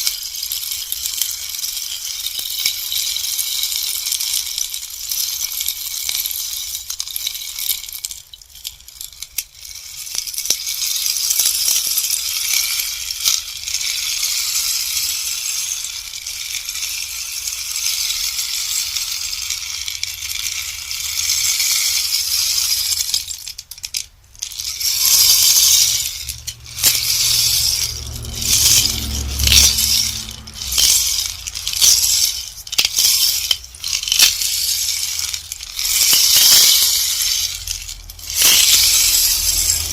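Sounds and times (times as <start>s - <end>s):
rainstick pebbles trickling: 0.0s - 39.9s.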